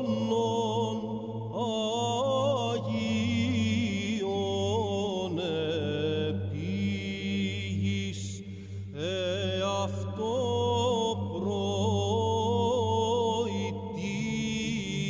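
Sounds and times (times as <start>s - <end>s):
voices chanting ornamented melody: 0.0s - 15.0s.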